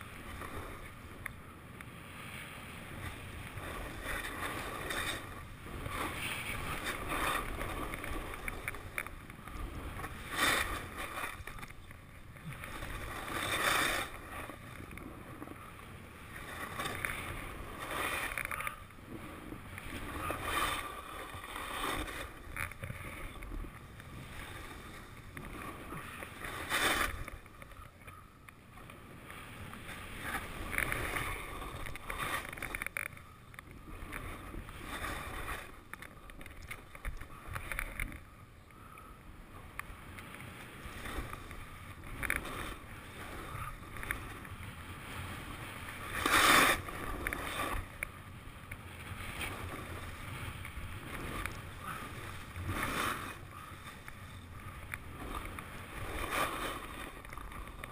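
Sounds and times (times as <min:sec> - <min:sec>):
skis scraping over snow: 0:02.0 - 0:27.9, 0:29.0 - 0:37.5, 0:40.6 - 0:48.0, 0:49.0 - 0:57.9.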